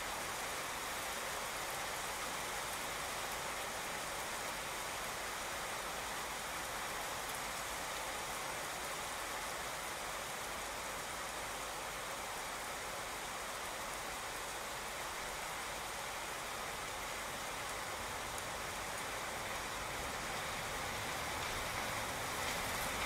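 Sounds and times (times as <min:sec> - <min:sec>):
rain on wet asphalt: 0:00.0 - 0:23.0.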